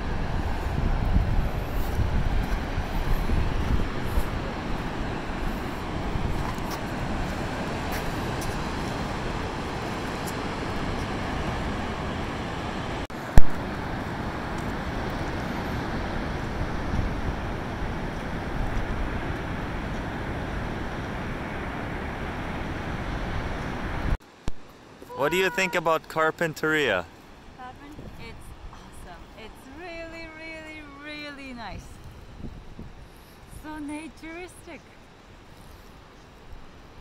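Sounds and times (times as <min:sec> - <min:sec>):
surf rushing: 0:00.0 - 0:24.2, 0:24.9 - 0:31.6
wind buffeting microphone: 0:00.0 - 0:24.2, 0:27.3 - 0:35.4.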